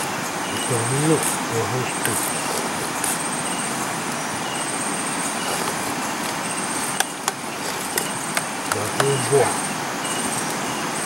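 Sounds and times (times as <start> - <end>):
insects trilling: 0.0 - 11.0
jungle hiss: 0.0 - 11.0.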